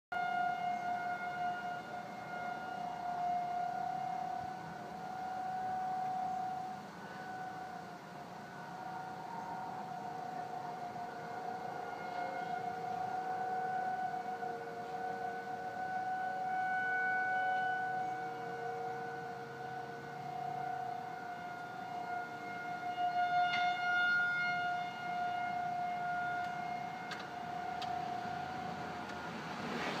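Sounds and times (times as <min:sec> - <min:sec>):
sustained siren-like tone: 0:00.1 - 0:30.0.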